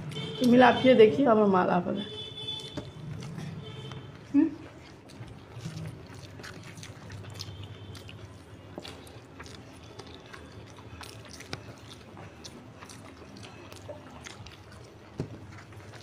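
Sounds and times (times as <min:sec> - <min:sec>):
chewing with wet mouth clicks: 0:00.0 - 0:00.7, 0:02.4 - 0:16.0.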